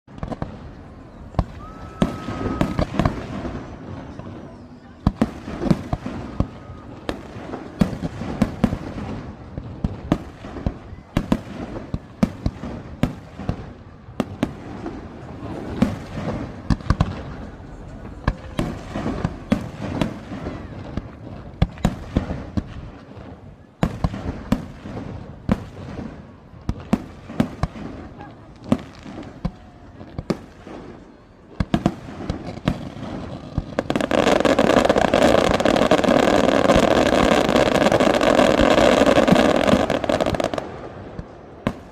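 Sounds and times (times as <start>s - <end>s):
fireworks bangs and bursts: 0.1s - 41.9s
murmuring voices: 0.4s - 9.7s, 10.4s - 41.6s.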